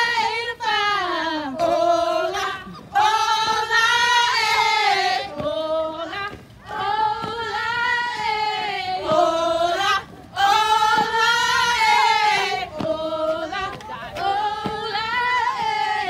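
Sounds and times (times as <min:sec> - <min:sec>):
women chanting in unison: 0:00.0 - 0:16.0.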